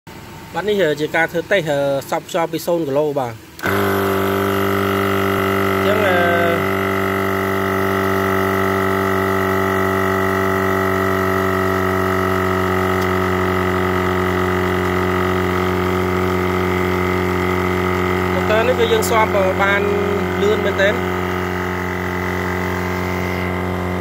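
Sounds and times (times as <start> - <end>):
tyre inflator pumping: 3.6 - 24.0.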